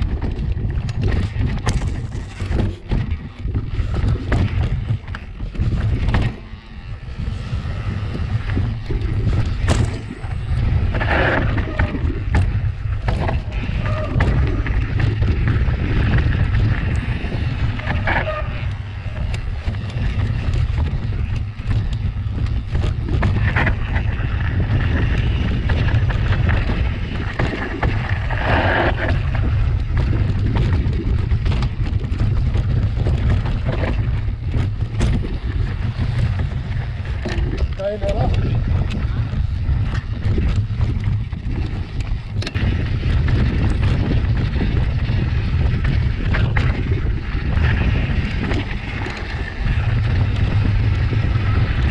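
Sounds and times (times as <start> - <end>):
bike knocking and rattling: 0.0 - 51.9
wind buffeting microphone: 0.0 - 51.9.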